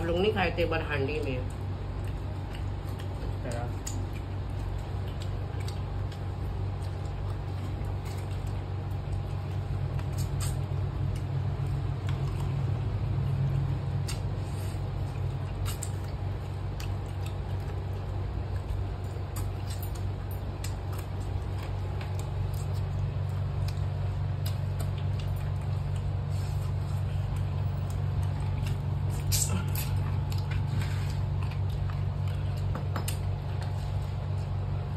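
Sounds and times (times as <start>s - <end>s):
low hum: 0.0s - 34.9s
chewing smacks and clicks: 1.1s - 34.9s.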